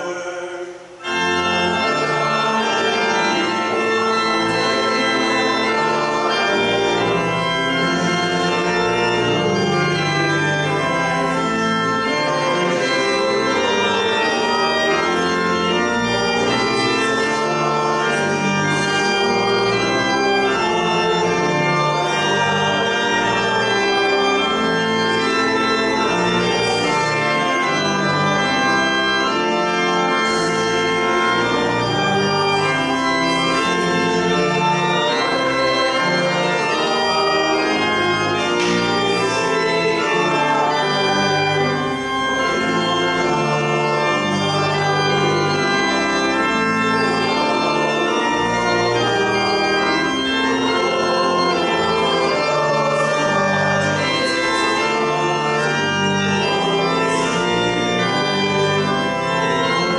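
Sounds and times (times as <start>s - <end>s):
church organ playing chords: 0.0s - 59.9s.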